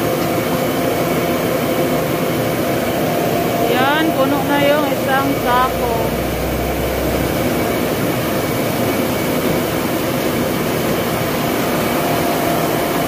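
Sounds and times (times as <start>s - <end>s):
grinding mill running: 0.0s - 13.0s.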